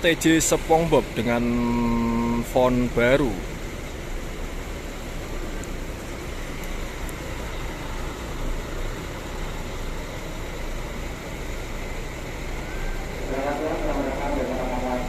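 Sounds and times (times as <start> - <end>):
diesel bus engine running: 0.0 - 15.0.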